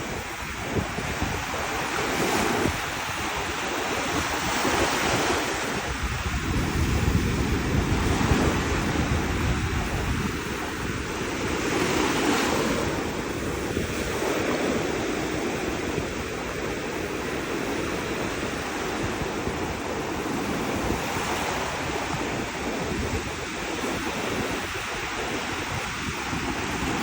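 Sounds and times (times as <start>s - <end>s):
surf breaking on beach: 0.0s - 27.0s
wind rumbling on microphone: 0.0s - 27.0s.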